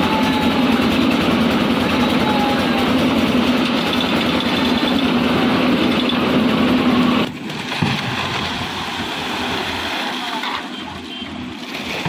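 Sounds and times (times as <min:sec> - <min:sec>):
construction site noise: 0:00.0 - 0:12.0
diesel engine running under load: 0:00.0 - 0:12.0.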